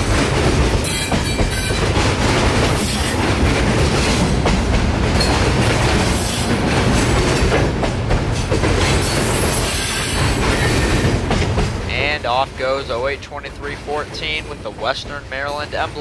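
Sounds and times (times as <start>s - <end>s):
train wheels rumbling on rail: 0.0s - 16.0s
wheels clacking over rail joints: 0.0s - 16.0s.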